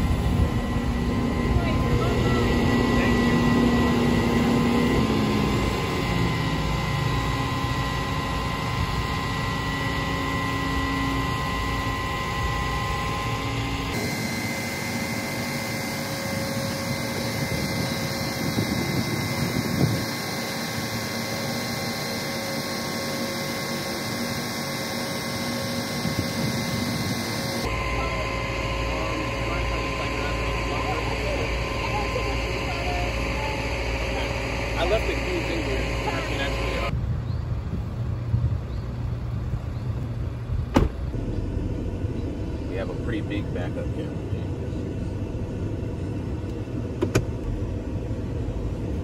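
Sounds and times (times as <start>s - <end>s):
car hauler mechanical whine: 0.0s - 49.0s.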